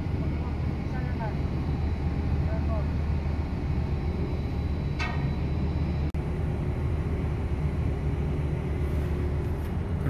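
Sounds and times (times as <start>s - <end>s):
ship machinery rumble: 0.0s - 10.0s.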